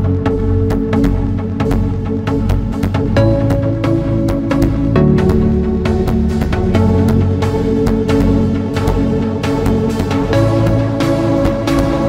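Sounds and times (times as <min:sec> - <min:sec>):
trance synthesizer music: 0:00.0 - 0:12.0.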